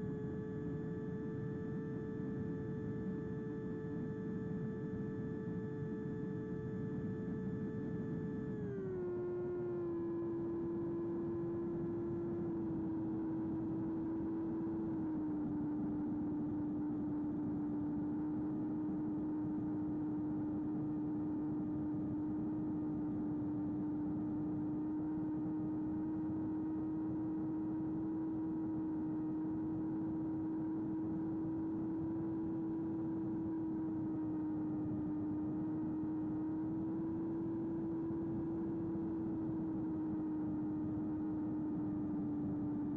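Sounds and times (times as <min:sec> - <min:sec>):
electric motor and propeller hum: 0:00.0 - 0:42.9.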